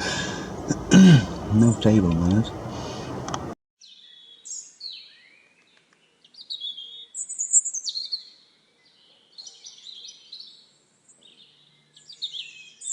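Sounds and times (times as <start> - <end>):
birds chirping and whistling: 0.0 - 10.6, 11.3 - 12.9.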